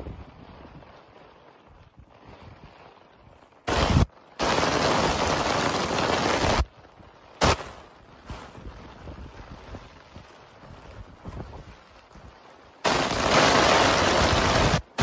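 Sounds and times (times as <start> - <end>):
soft rain hiss: 0.0 - 15.0
wind and heavy rain on microphone: 0.0 - 15.0.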